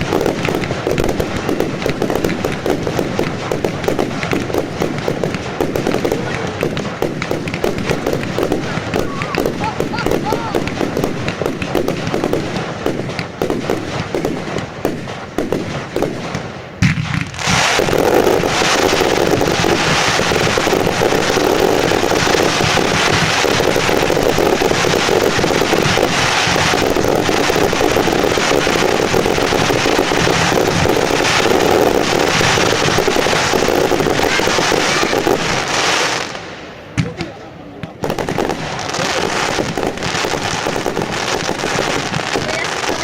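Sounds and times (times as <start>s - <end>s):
fireworks exploding: 0.0s - 43.0s.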